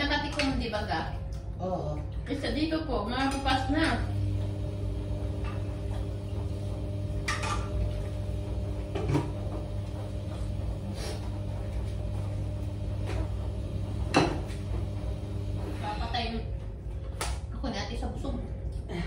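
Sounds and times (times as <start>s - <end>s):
steady low hum: 3.7s - 19.0s.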